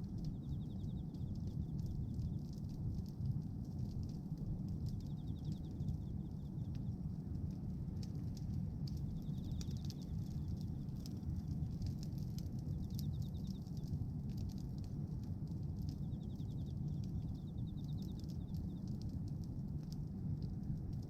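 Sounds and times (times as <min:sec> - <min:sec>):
flames rumbling: 0:00.0 - 0:21.0
wood crackling and popping: 0:00.0 - 0:21.0.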